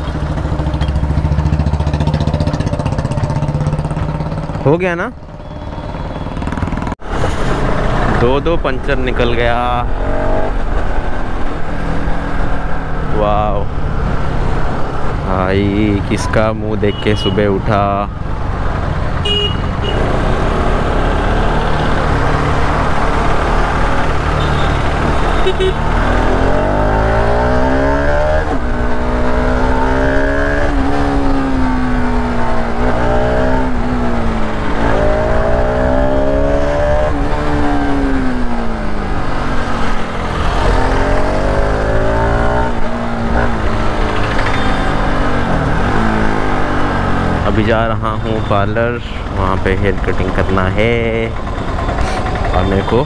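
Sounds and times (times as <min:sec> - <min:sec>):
motorcycle engine: 0:00.0 - 0:53.0
road noise: 0:00.0 - 0:53.0.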